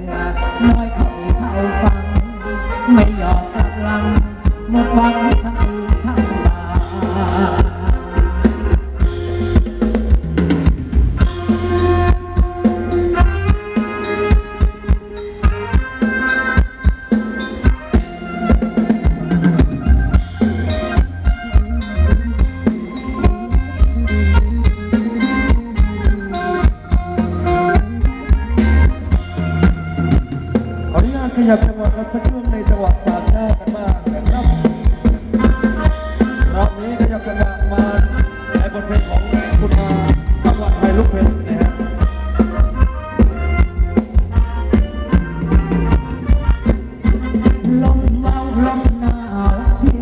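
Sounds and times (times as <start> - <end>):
live band dance music: 0.0 - 50.0
reedy accordion-like melody: 0.0 - 50.0
steady drum beat: 0.0 - 50.0.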